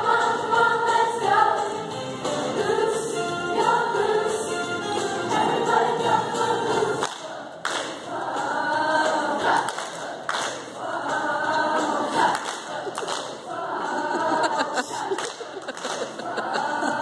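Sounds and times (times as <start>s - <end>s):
girls chorus singing: 0.0s - 17.0s.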